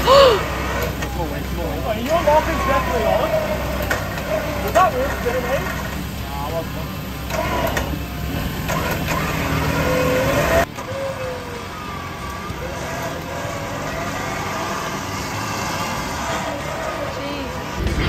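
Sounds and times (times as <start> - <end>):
vehicle engine revving: 0.0 - 18.0.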